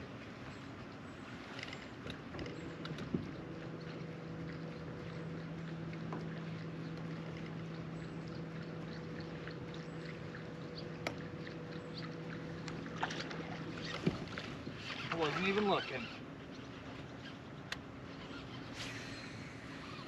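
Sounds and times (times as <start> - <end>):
water and wind noise: 0.0 - 20.0.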